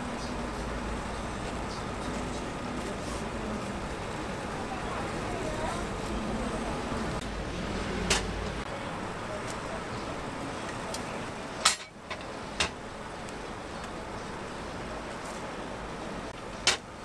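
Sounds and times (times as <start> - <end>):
street background hum: 0.0 - 17.0.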